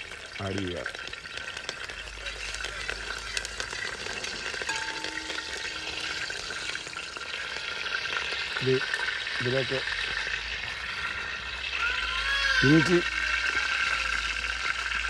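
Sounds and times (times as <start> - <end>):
leaves sizzling in hot oil: 0.0 - 15.0.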